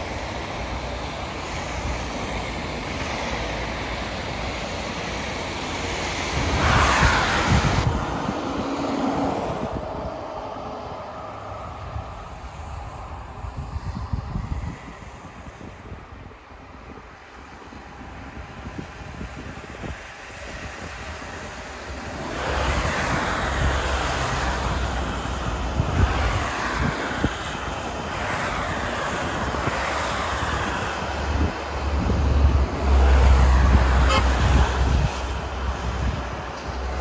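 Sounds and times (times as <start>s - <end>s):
tyres hissing on wet road: 0.0s - 15.8s, 16.4s - 37.0s
wind buffeting microphone: 0.0s - 37.0s.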